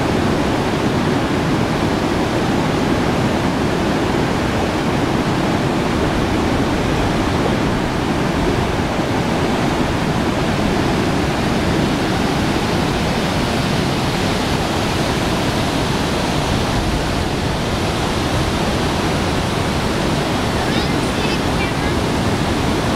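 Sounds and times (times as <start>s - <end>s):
water rushing through dam: 0.0s - 22.9s.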